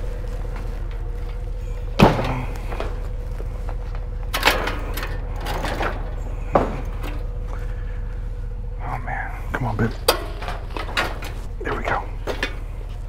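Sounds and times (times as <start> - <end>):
bicycle knocking against trailer: 0.0 - 7.6, 9.8 - 13.0
steady low hum: 0.0 - 13.0.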